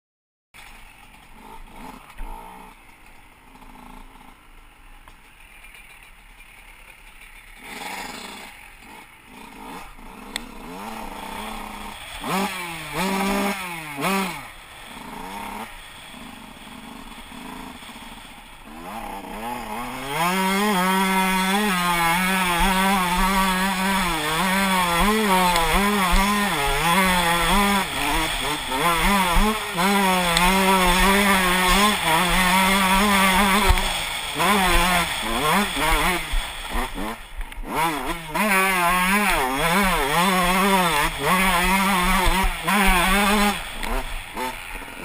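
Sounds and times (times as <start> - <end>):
motocross bike engine revving: 0.6 - 45.0.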